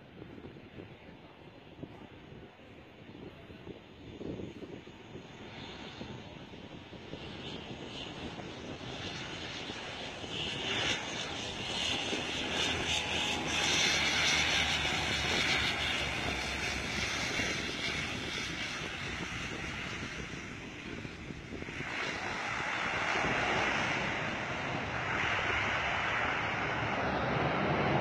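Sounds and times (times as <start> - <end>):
turboprop plane droning past: 3.3 - 28.0.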